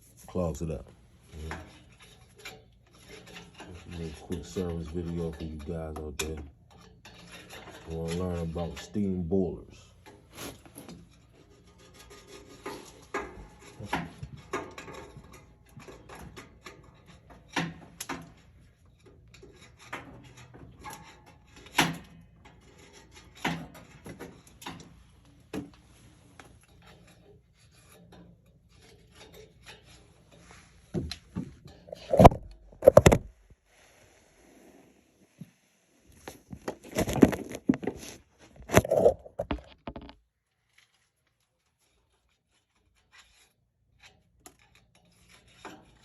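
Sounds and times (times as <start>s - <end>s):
hand tools scraping metal: 0.0s - 33.2s, 41.4s - 46.0s.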